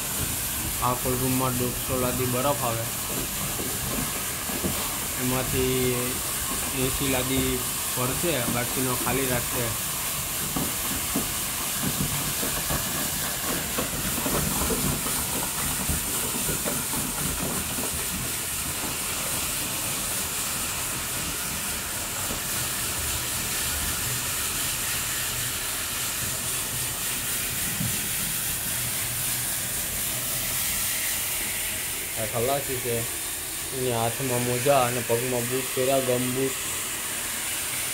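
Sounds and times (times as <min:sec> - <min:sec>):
crushed ice pouring through chute: 0:00.0 - 0:37.9.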